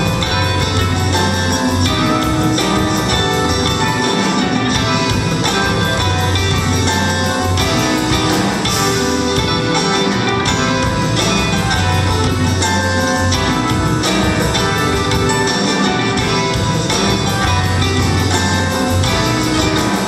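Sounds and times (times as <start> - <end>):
instrumental pop-folk music: 0.0 - 20.0.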